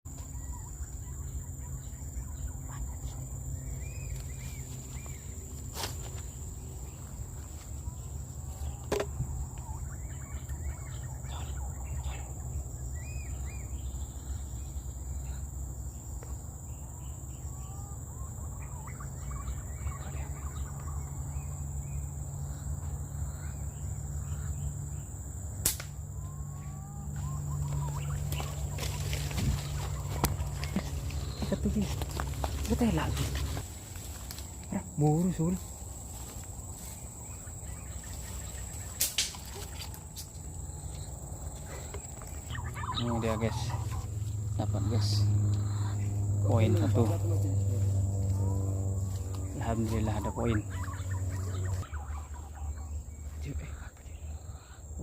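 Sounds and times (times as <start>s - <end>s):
birds chirping and whistling: 0.1s - 25.2s, 26.1s - 55.0s
high insect drone: 0.1s - 55.0s
low rumble: 0.7s - 54.6s.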